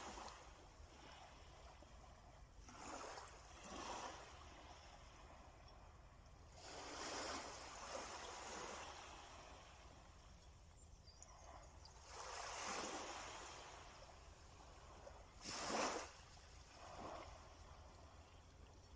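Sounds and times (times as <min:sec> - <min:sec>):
small waves breaking on shore: 0:00.0 - 0:18.9.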